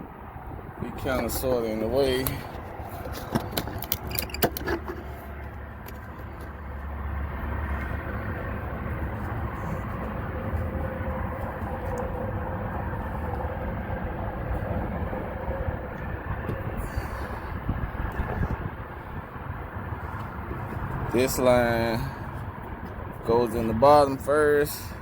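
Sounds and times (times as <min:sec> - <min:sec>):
vehicle engines rumbling: 0:00.0 - 0:25.0.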